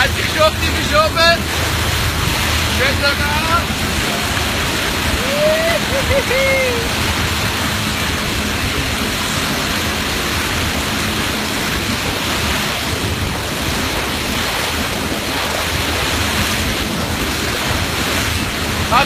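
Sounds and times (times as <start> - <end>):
churning wake water: 0.0 - 19.0
wind buffeting microphone: 0.0 - 19.0.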